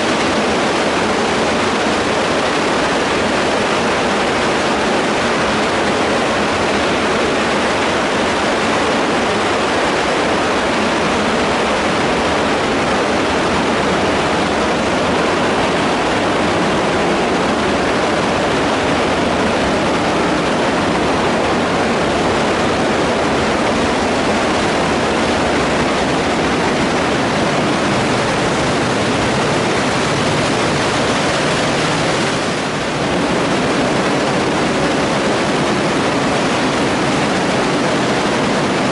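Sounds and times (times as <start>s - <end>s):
water rushing through pipe: 0.0s - 38.9s.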